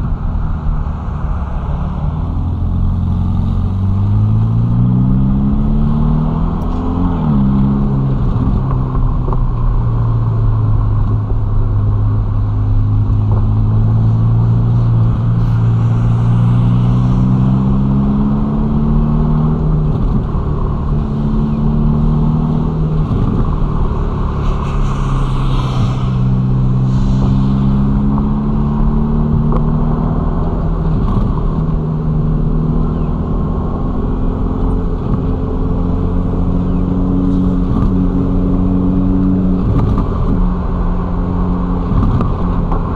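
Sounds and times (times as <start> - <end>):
car engine at low revs: 0.0 - 42.9.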